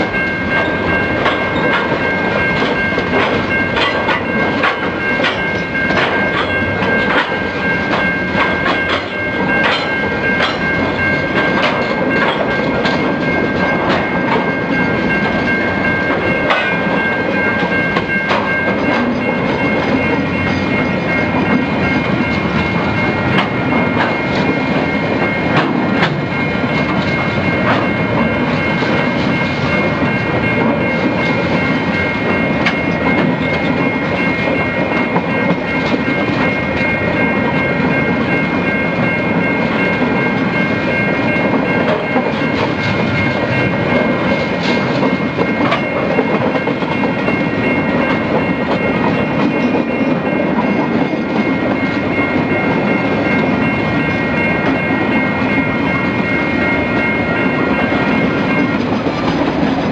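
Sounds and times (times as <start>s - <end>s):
freight wagons rumbling on rails: 0.0s - 59.9s
wheels clickety-clack over rail joints: 0.0s - 59.9s.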